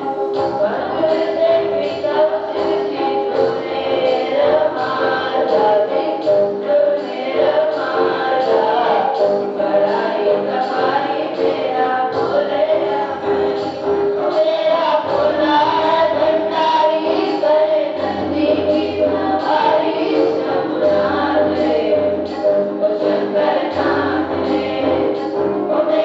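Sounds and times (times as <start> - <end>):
electronic keyboard: 0.0 - 26.0
steady percussion beat: 0.0 - 26.0
students singing in chorus: 0.0 - 26.0.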